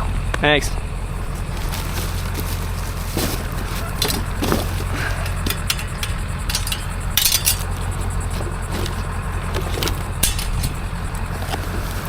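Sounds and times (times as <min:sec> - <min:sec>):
vehicle engine rumble: 0:00.0 - 0:12.0
light clicks and rattles: 0:01.2 - 0:12.0.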